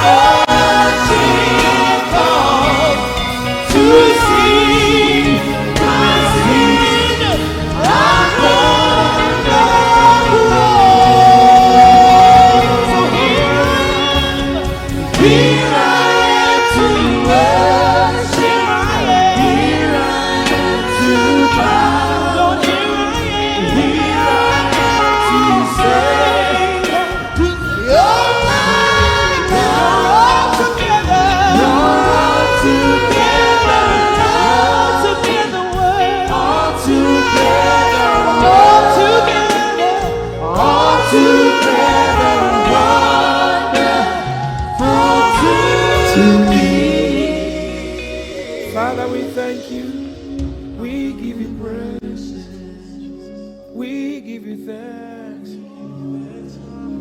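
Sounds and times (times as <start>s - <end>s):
person leading a song: 0.0s - 53.2s
band accompaniment: 0.0s - 53.8s
congregation singing: 0.0s - 57.0s.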